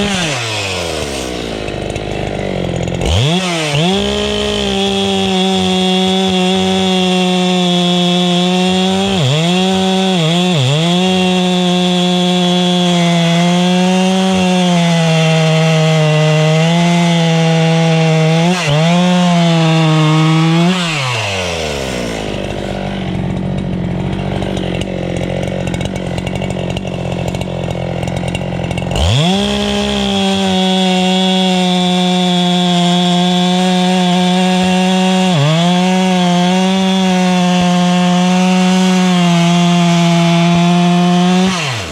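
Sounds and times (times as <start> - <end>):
chainsaw cutting through log: 0.0 - 41.9.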